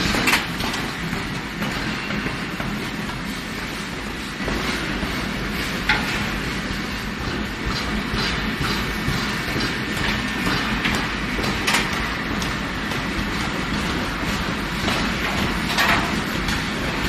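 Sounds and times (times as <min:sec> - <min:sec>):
rotating drum rumble: 0:00.0 - 0:17.0.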